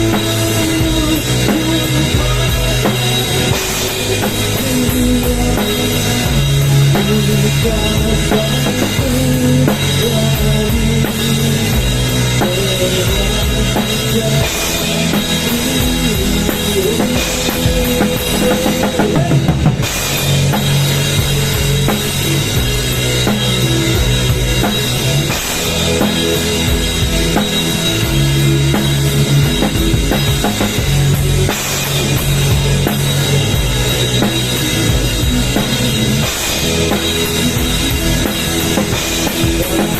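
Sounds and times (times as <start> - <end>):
drum kit: 0.0 - 39.9
heavy bass line: 0.0 - 39.9
rock music over sound system: 0.0 - 39.9.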